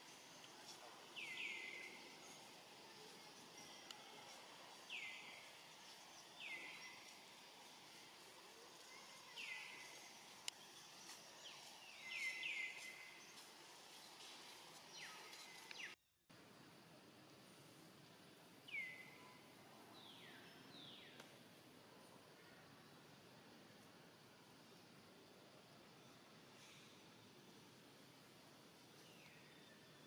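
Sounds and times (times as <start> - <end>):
faint outdoor background: 0.0 - 30.0.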